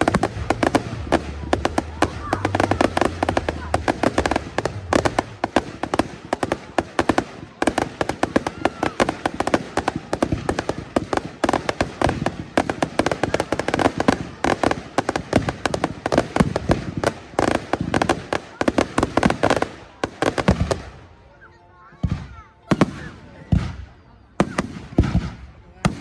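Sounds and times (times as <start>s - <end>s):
fireworks cracking and banging: 0.0s - 26.0s.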